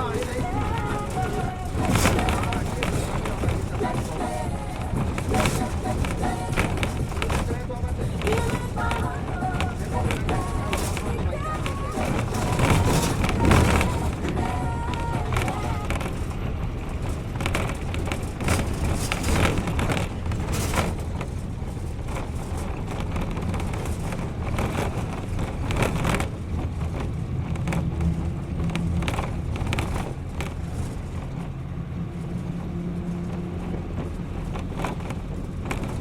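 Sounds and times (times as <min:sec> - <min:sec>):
bus engine and road rumble: 0:00.0 - 0:36.0
rattles and knocks: 0:00.0 - 0:36.0.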